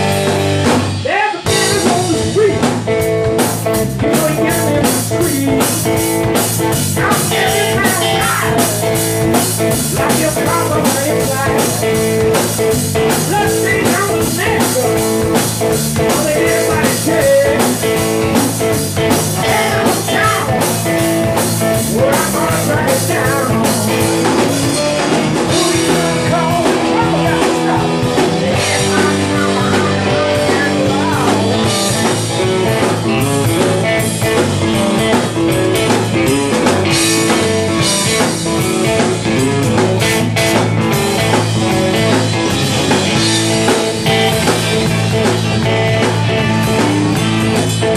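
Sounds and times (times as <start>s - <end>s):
drum kit steady beat: 0.0s - 47.9s
electric guitar with bent notes: 0.0s - 47.9s.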